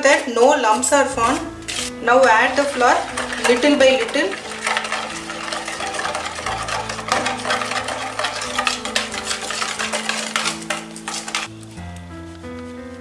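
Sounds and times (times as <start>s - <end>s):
soft background music: 0.0s - 13.0s
whisk scraping plastic bowl: 0.1s - 11.6s.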